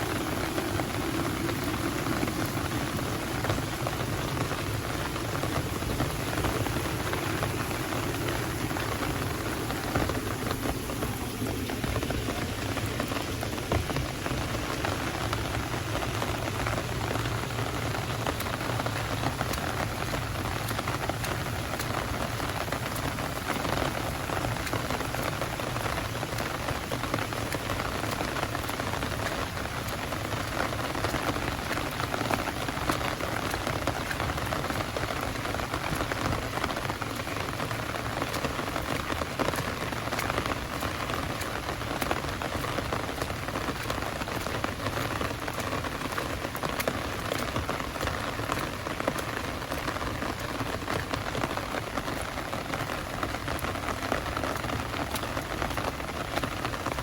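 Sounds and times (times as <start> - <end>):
close raindrops pattering: 0.0 - 57.0
heavy rain hissing: 0.0 - 57.0.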